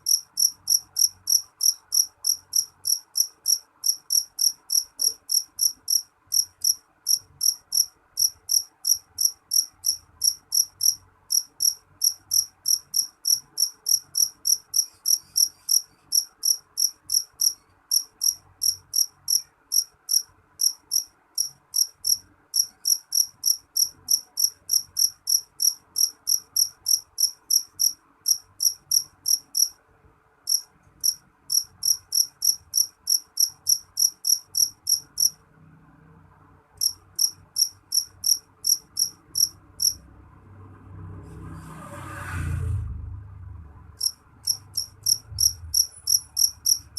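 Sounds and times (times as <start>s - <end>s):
cricket chirping: 0.0s - 29.8s, 30.5s - 35.4s, 36.8s - 40.0s, 44.0s - 46.9s.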